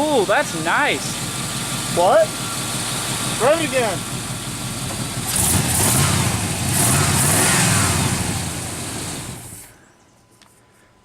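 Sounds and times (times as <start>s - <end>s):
pickup truck engine revving: 0.0s - 9.7s.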